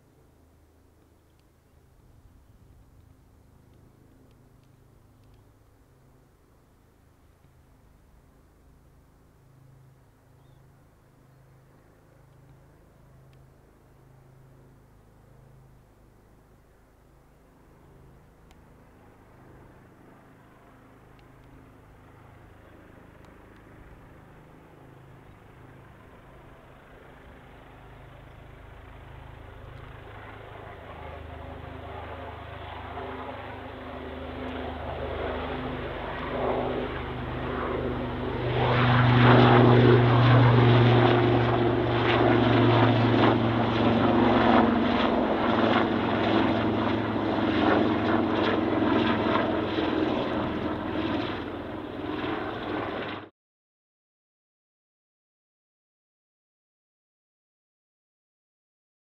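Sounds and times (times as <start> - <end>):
helicopter flying low: 0.0 - 53.3.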